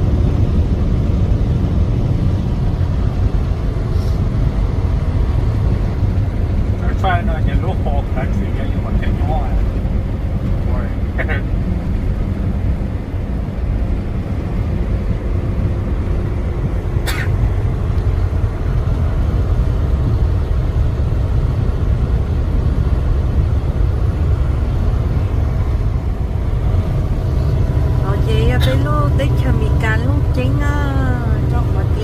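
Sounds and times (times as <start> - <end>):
road rumble: 0.0 - 32.0
truck engine running: 0.0 - 32.0.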